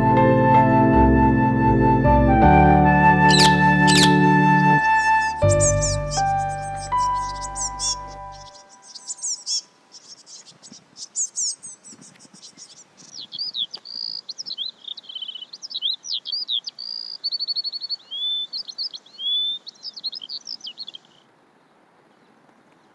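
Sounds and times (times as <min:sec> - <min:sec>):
songbird singing: 0:03.0 - 0:22.9.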